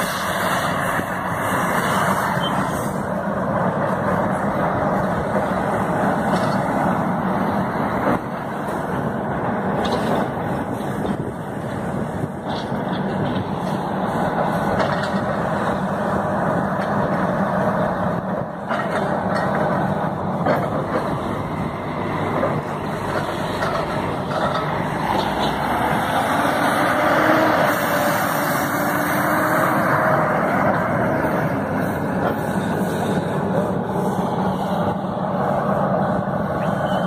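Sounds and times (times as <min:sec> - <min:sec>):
diesel trucks driving: 0:00.0 - 0:37.0.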